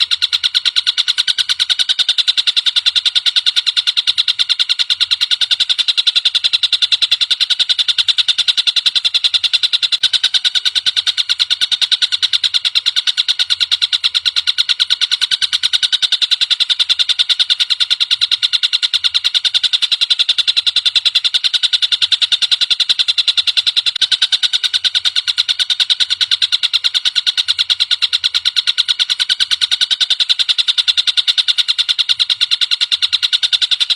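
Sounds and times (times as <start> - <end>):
kingfisher rattling trill: 0.0 - 33.9.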